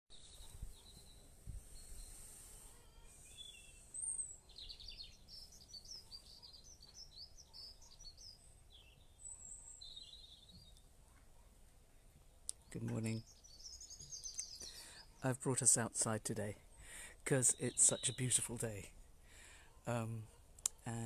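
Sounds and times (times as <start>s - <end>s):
birds chirping: 0.1s - 21.0s
low steady background noise: 0.2s - 21.0s.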